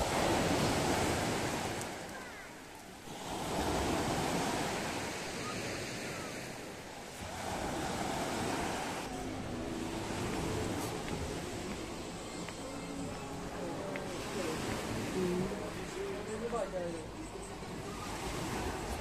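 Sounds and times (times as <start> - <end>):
waves washing on pebble beach: 0.0 - 12.0, 13.4 - 16.0, 17.8 - 19.0.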